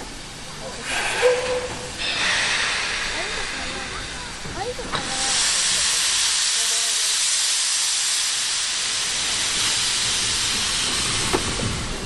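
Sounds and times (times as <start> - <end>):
steam hissing from locomotive: 0.2 - 12.0.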